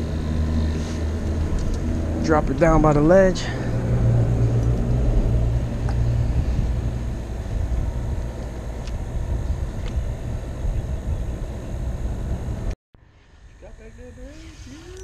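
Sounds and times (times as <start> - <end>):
traffic rumbling over bridge: 0.0 - 12.8.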